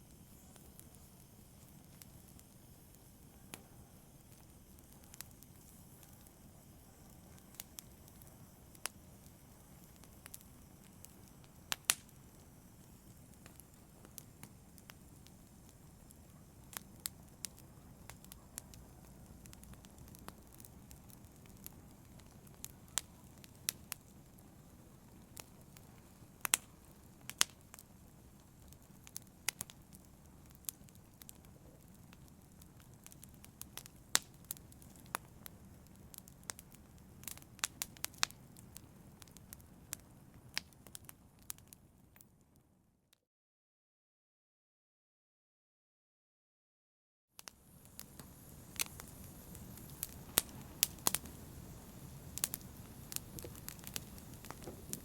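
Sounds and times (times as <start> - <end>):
low rumble of flames: 0.0 - 42.2, 47.5 - 55.0
fire crackling and popping: 0.0 - 42.6, 47.4 - 55.0.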